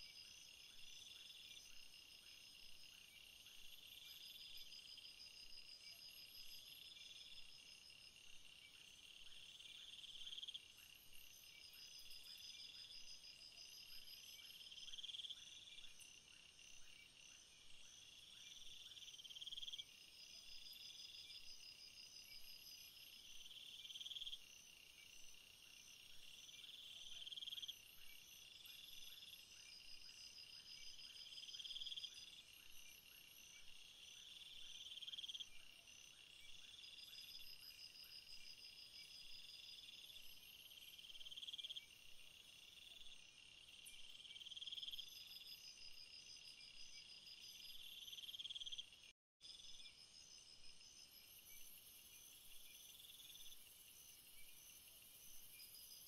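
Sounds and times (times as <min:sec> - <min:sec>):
high pulsed insect trills: 0:00.0 - 0:56.0.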